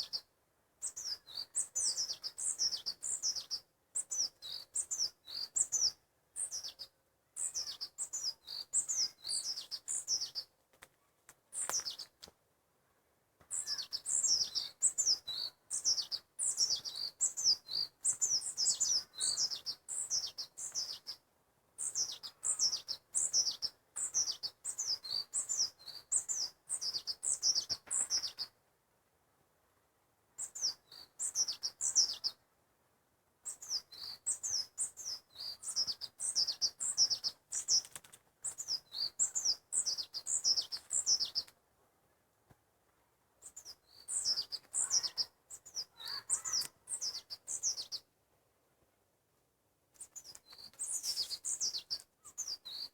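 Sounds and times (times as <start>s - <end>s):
songbird chirping: 0.0s - 28.7s, 30.3s - 32.6s, 33.3s - 52.9s.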